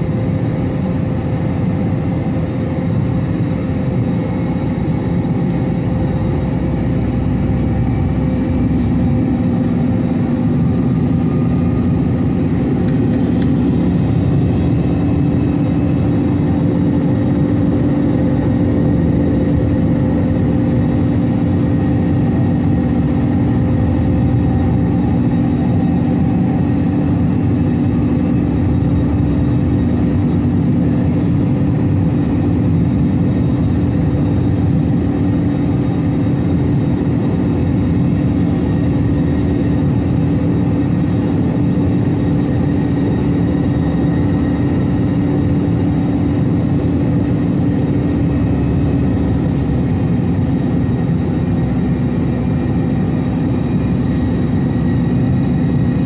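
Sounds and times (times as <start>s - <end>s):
airplane cabin drone: 0.0s - 56.0s.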